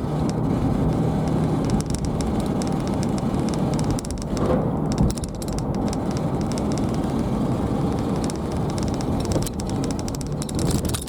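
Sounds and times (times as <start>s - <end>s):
car road noise: 0.0s - 11.0s
faint clicks and crackles: 0.2s - 11.0s.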